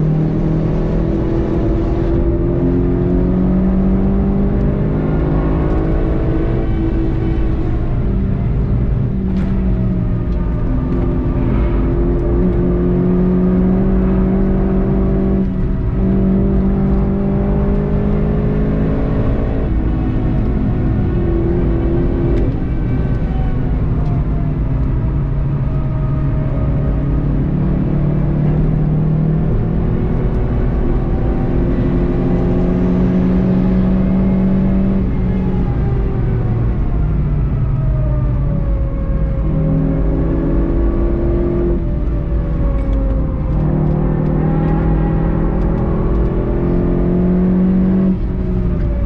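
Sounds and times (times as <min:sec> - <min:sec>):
car engine accelerating hard: 0:00.0 - 0:49.0
tyre and road noise: 0:00.0 - 0:49.0.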